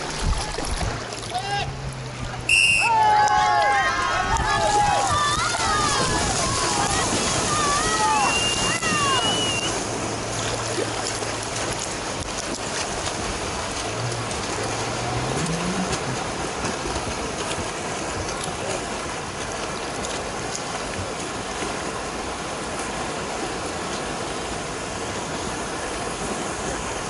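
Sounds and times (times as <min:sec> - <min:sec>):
low engine hum: 0:00.0 - 0:27.0
surf and water splashing: 0:00.0 - 0:27.0.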